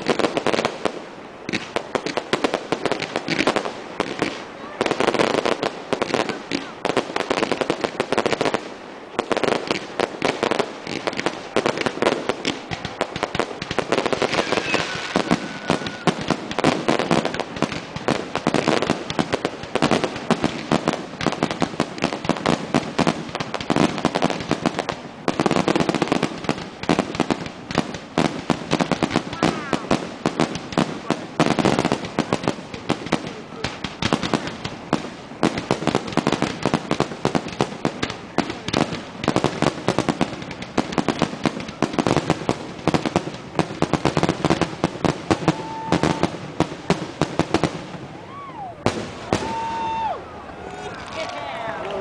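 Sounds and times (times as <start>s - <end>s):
fireworks bursting and crackling: 0.0s - 52.0s.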